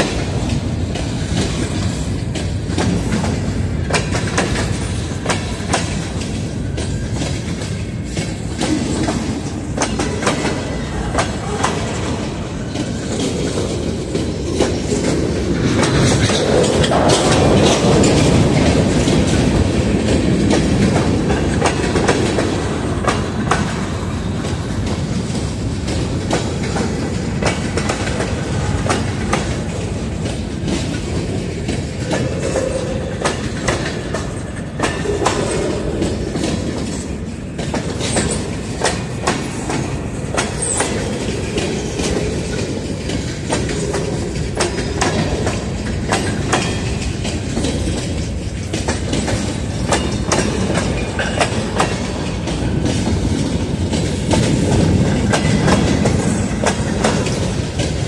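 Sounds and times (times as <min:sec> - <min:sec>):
freight train wheels clicking: 0:00.0 - 0:58.0.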